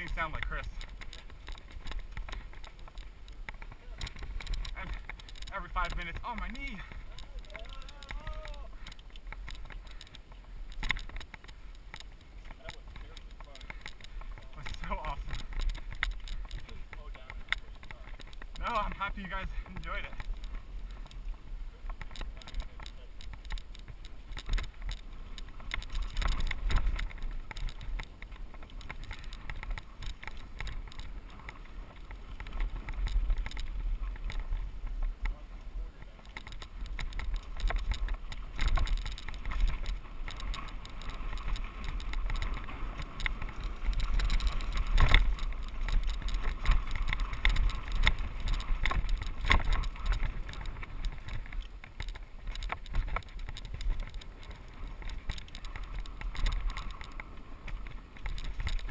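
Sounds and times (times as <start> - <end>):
bike rattling over bumps: 0.0 - 58.9
bike tyres on dirt: 0.0 - 58.9
wind rumble on microphone: 0.0 - 58.9.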